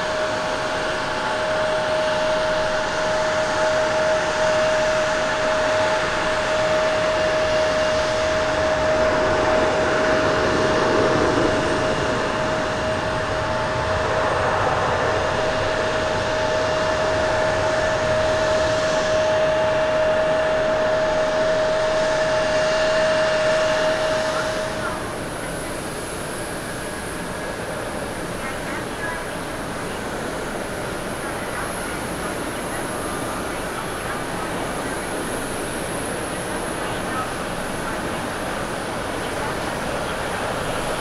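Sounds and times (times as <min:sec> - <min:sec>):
jet engine noise on approach: 0:00.0 - 0:41.0
jet engines running at high power: 0:00.0 - 0:41.0.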